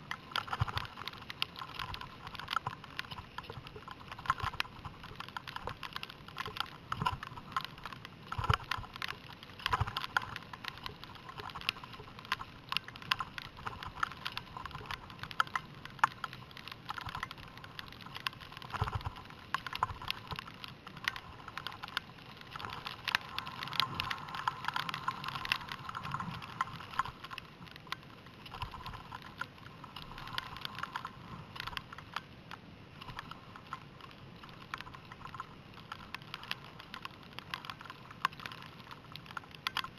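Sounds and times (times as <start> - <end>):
irregular clicking and ticking: 0.0 - 39.9.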